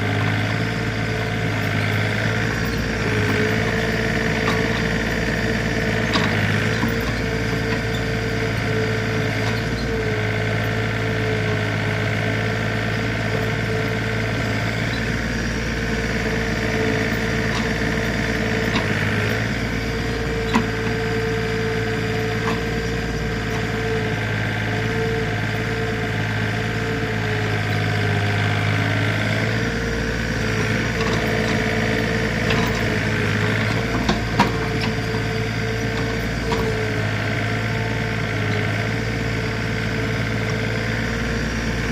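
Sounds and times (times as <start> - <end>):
backhoe engine running: 0.0 - 41.9.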